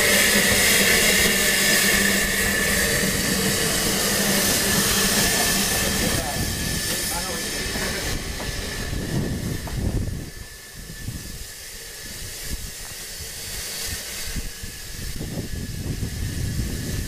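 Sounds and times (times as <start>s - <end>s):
steam locomotive hissing steam: 0.0s - 17.0s.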